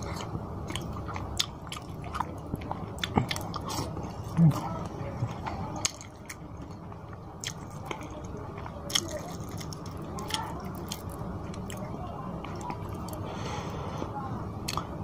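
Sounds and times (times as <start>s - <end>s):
wet chewing: 0.0s - 13.3s.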